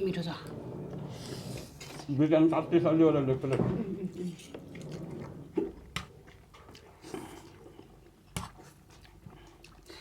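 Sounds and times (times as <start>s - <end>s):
people chewing and eating noodles: 1.0s - 10.0s.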